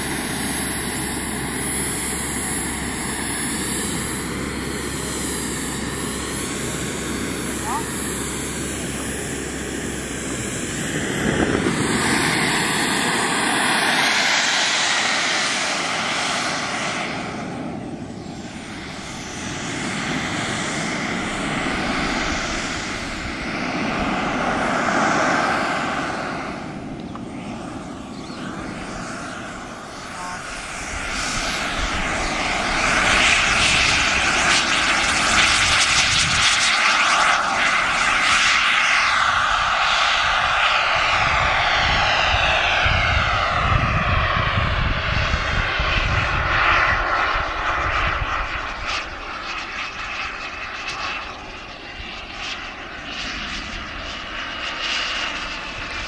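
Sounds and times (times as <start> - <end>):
model jet turbine engine: 0.0 - 56.0.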